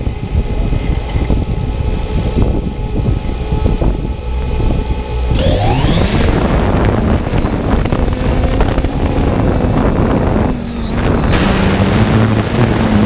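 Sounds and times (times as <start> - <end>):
drone motors whining: 0.8 - 13.0.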